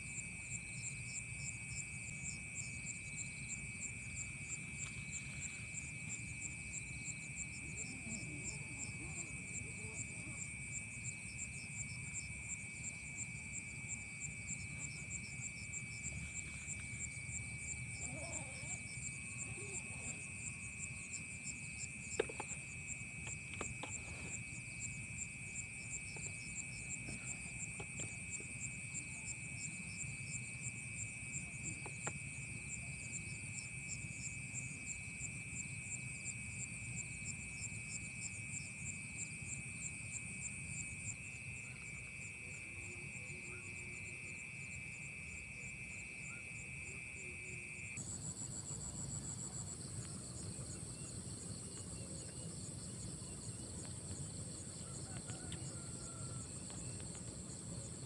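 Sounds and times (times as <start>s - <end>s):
insects trilling: 0.0s - 58.0s
rapidly pulsing insect trill: 0.0s - 58.0s.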